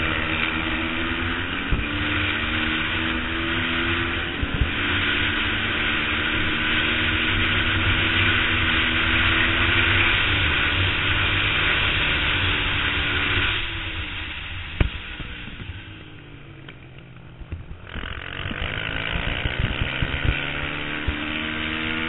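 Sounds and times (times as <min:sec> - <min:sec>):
race motorcycle engine running hard: 0:00.0 - 0:22.0.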